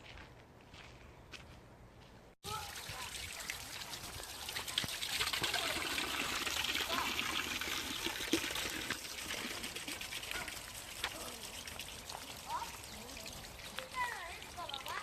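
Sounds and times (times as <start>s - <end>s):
water trickling: 2.4s - 15.0s.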